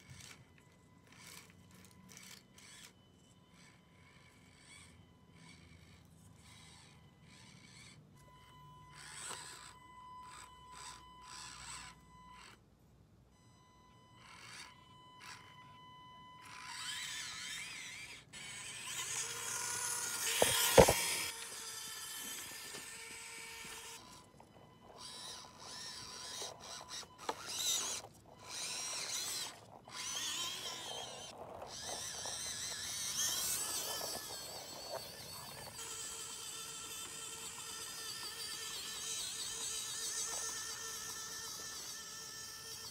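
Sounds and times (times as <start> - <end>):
small electric motor whining: 0.0 - 12.7, 13.4 - 42.9
gear and tyre noise: 0.0 - 42.9.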